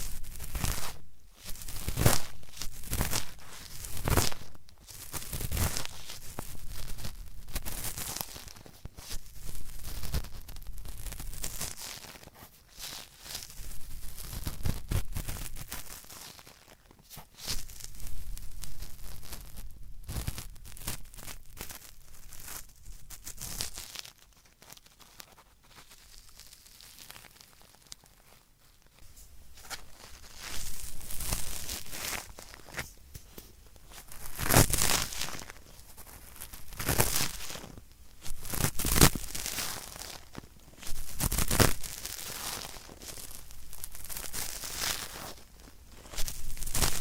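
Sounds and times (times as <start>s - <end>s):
cotton swab scratching in ear: 0.0s - 28.2s, 29.0s - 47.0s.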